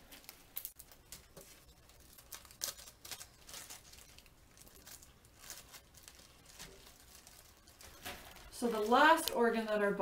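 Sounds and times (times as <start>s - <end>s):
plastic bags crinkling: 0.0s - 9.7s.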